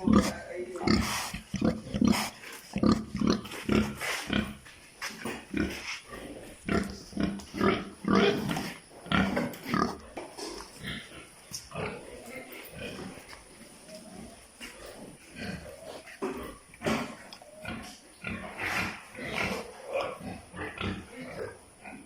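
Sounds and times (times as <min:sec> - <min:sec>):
pigs grunting and snuffling: 0:00.0 - 0:22.0.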